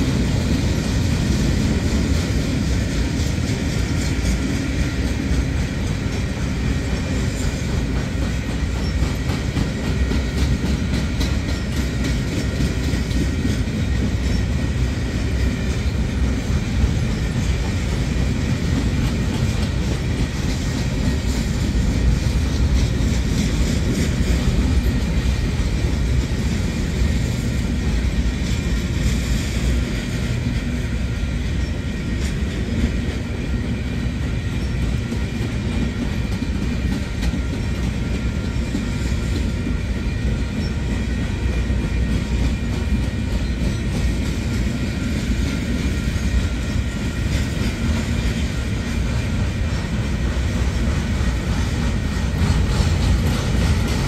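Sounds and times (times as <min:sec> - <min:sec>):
freight train rumbling past: 0:00.0 - 0:54.0
wheels clattering on track: 0:00.0 - 0:54.0.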